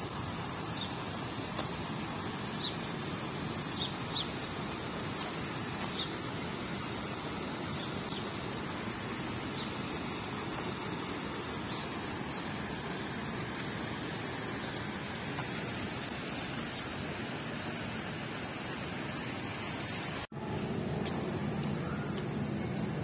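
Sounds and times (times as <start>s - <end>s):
aerators spraying water: 0.0s - 23.0s.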